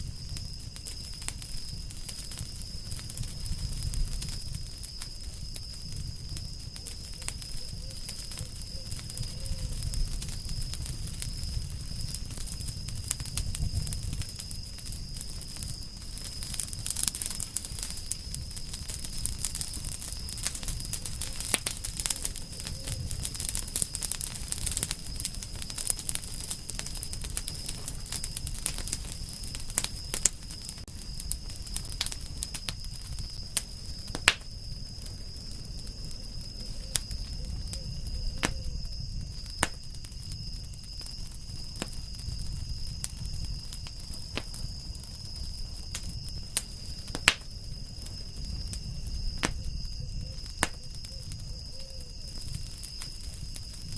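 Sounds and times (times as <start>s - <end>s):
campfire crackling and popping: 0.0s - 53.9s
low rumble of flames: 0.0s - 53.9s.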